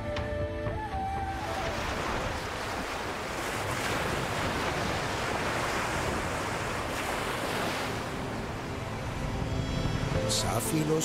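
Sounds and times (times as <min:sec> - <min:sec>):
waves washing on sandy beach: 0:01.3 - 0:11.0.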